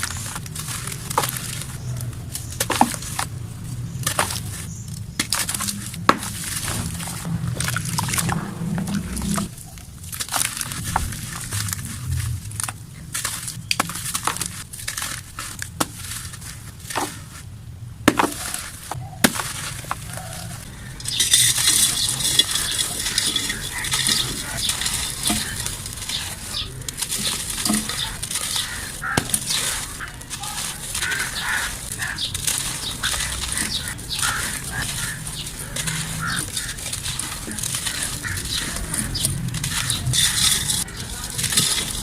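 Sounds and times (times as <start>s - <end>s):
dried mud snapping and crumbling: 0.0s - 42.0s.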